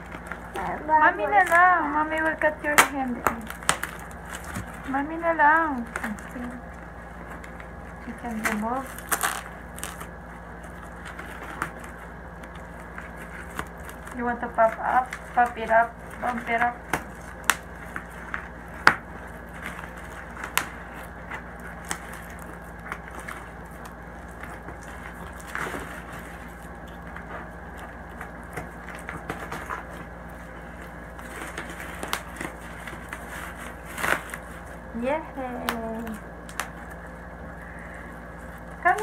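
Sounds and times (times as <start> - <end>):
bubble wrap popping: 0.0 - 37.4.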